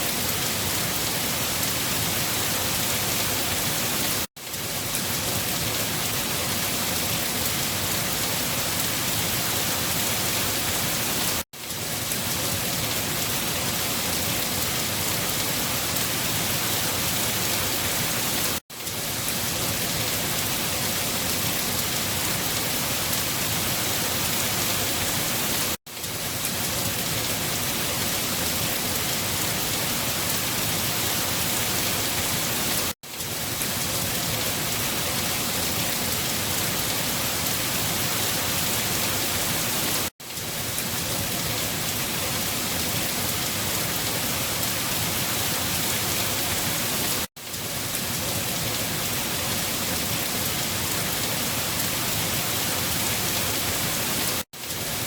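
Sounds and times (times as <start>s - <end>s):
steady dense rainfall: 0.0s - 55.0s.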